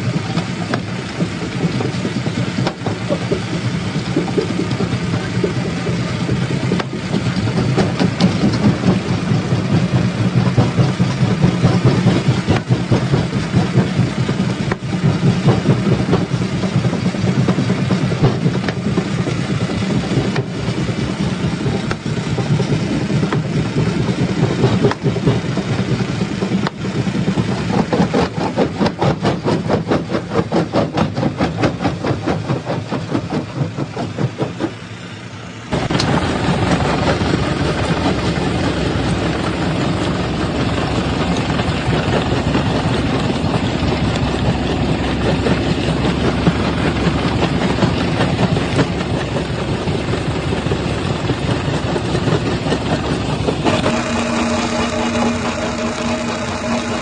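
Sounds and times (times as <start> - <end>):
rock crusher machine drone: 0.0 - 57.0.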